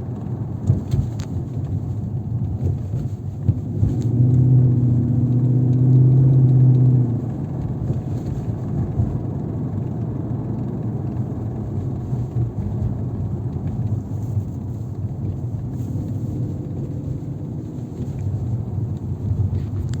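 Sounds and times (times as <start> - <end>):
car engine low uneven rumble: 0.0 - 20.0.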